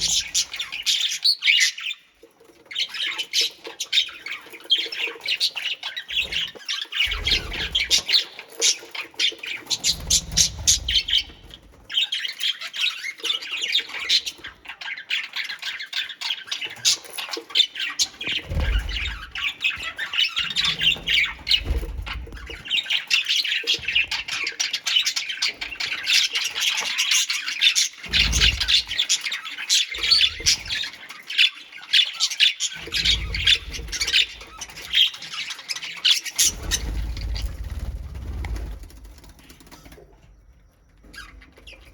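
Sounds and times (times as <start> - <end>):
birds chattering and squawking: 0.0 - 41.9.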